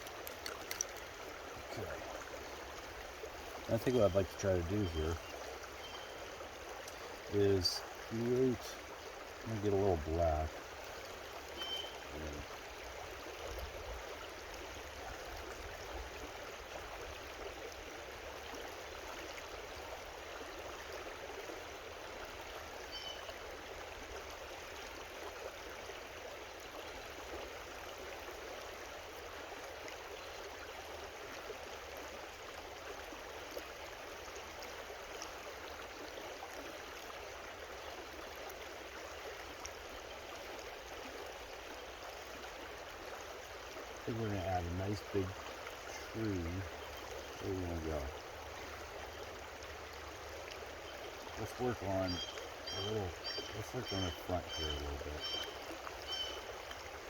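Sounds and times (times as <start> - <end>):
creek water rushing and trickling: 0.0 - 57.0.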